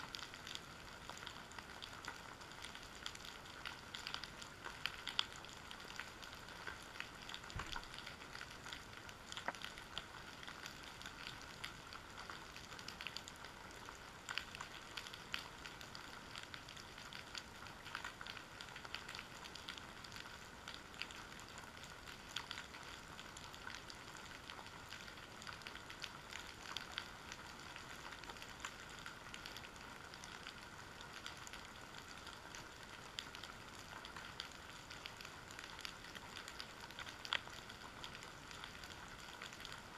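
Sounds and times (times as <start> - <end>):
underwater crackling and clicking: 0.0 - 39.9.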